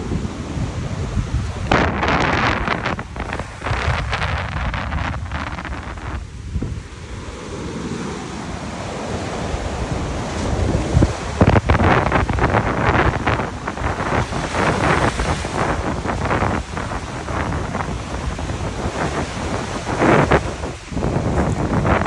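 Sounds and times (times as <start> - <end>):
sea waves breaking on beach: 0.0 - 22.0
wind rumbling on microphone: 0.0 - 22.0.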